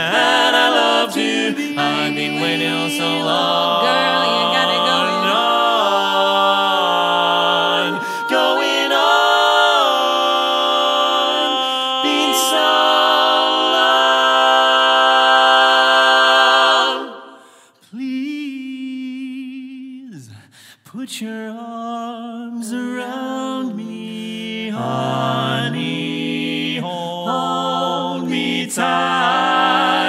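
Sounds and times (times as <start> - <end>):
barbershop a cappella singing: 0.0 - 17.3, 20.9 - 30.0.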